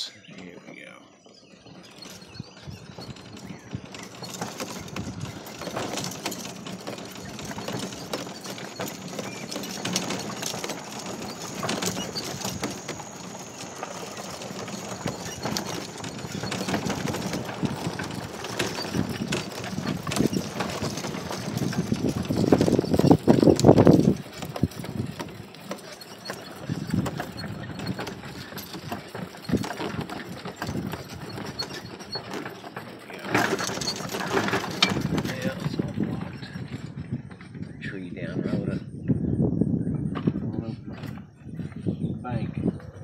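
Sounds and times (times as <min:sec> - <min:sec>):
utility vehicle on bumpy trail: 0:00.0 - 0:43.0
vehicle body rattling and knocking: 0:01.7 - 0:37.8.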